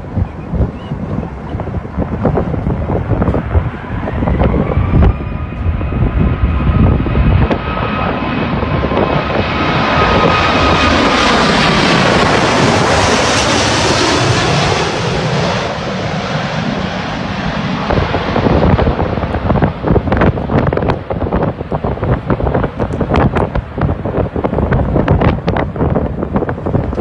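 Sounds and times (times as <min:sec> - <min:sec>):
jet engines roaring overhead: 0:00.0 - 0:27.0
wind gusts on microphone: 0:00.0 - 0:27.0.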